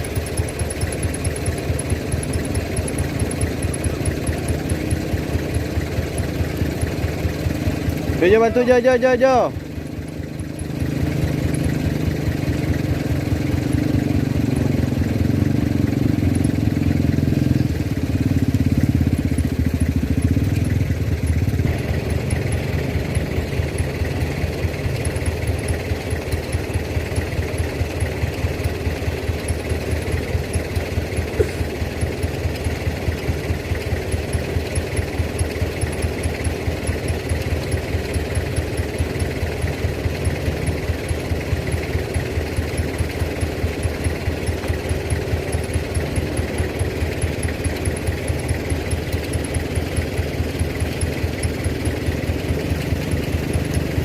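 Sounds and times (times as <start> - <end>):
diesel truck engine chugging: 0.0 - 54.0.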